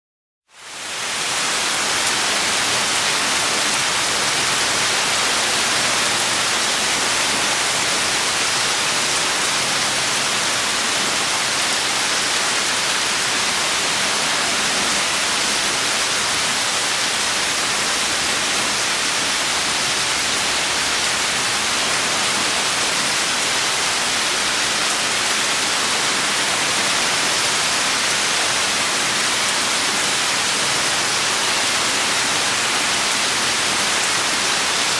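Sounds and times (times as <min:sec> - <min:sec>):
steady rain: 0:00.5 - 0:34.9.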